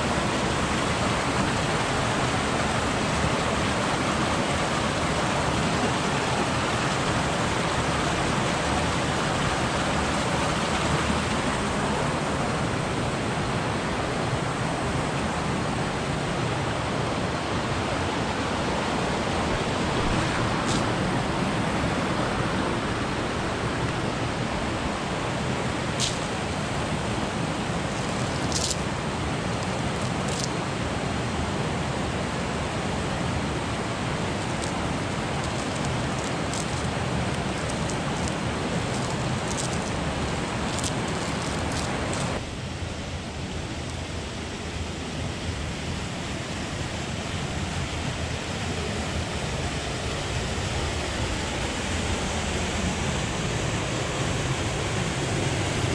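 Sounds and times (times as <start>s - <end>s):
river water rushing over rocks: 0.0s - 55.9s.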